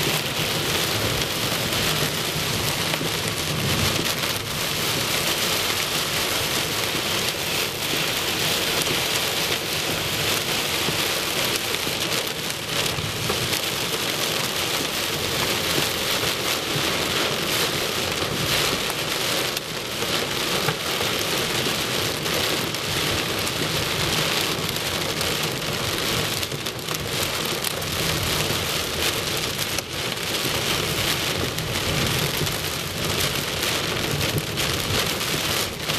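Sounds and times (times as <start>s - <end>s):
rain and hail drumming on a car roof: 0.0s - 35.9s.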